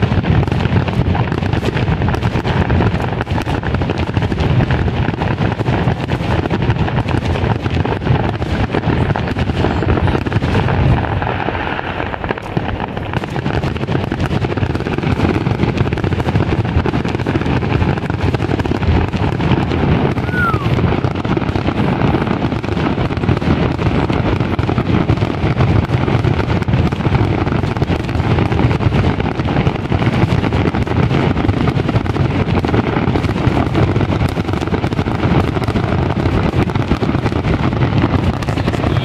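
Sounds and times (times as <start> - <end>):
fireworks bursts and crackles: 0.0 - 39.0.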